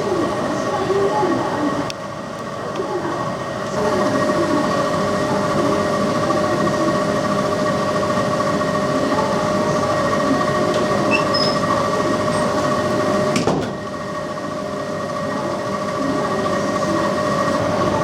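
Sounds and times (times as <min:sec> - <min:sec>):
air conditioner blowing and humming: 0:00.0 - 0:18.0.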